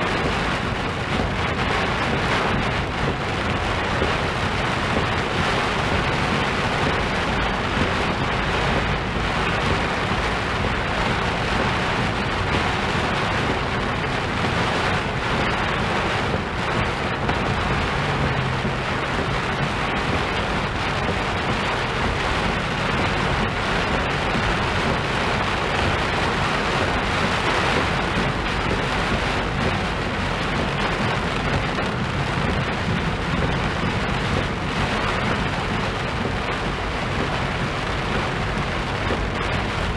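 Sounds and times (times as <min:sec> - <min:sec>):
heavy rain on car and road: 0:00.0 - 0:39.9
low rumble: 0:00.0 - 0:39.9.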